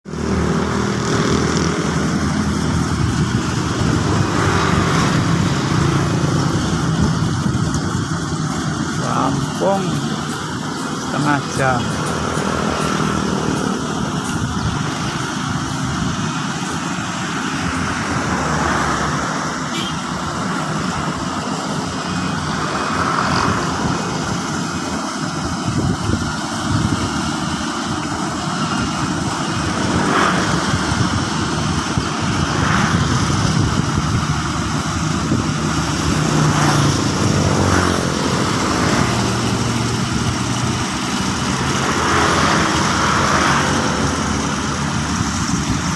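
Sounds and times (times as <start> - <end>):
harvesting machine engine running: 0.1 - 45.9.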